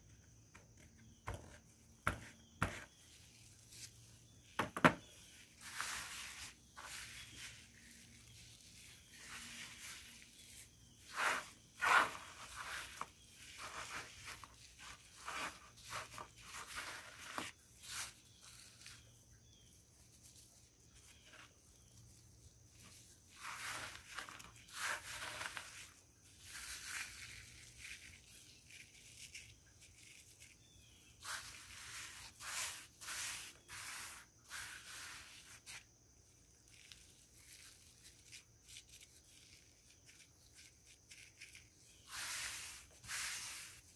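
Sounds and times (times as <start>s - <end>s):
mothballs crunching in hands: 2.9s - 43.9s.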